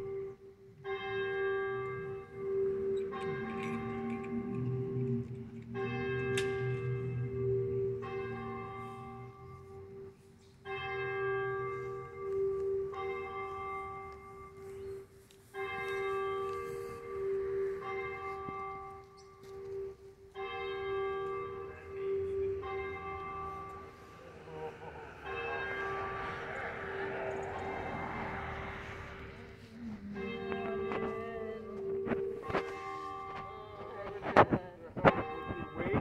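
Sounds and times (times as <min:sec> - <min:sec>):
church bell ringing: 0:00.0 - 0:36.0.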